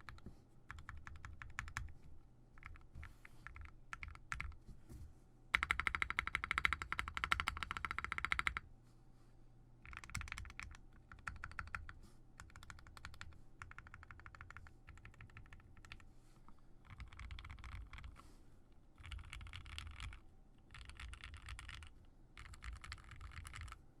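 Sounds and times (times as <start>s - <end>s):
mechanical keyboard typing: 0.0s - 1.9s, 2.6s - 4.6s, 5.6s - 8.6s, 9.8s - 16.0s, 16.8s - 18.2s, 19.0s - 23.8s.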